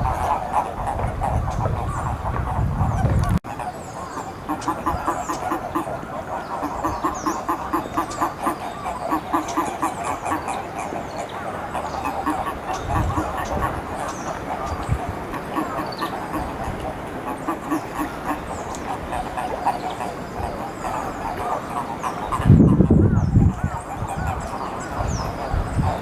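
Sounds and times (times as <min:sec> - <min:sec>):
small birds chirping faintly: 0:00.0 - 0:26.0
toads croaking: 0:00.0 - 0:26.0.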